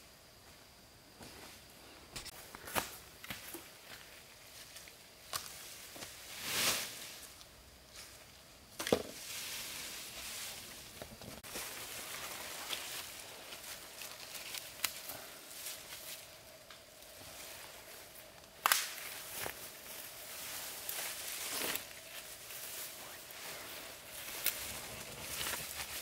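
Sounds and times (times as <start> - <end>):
fern fronds rustling: 2.3 - 26.0.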